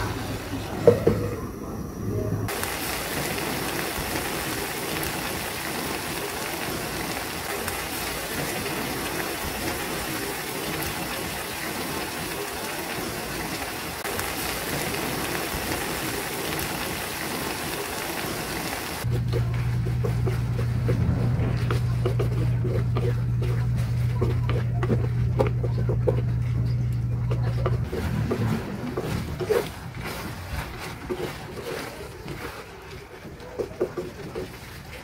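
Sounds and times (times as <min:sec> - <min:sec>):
stew bubbling and sizzling: 0:00.0 - 0:35.0.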